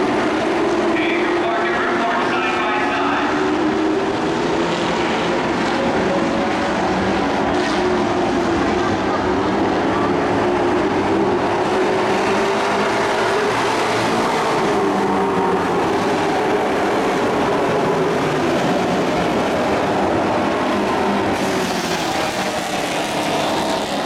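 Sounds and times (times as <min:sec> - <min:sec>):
racing truck engines passing: 0:00.0 - 0:24.0.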